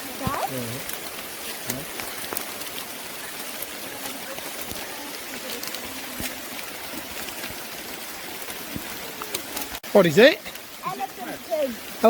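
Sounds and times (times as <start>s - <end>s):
rain pattering on foliage: 0.0s - 12.0s
sharp water drips: 0.0s - 12.0s.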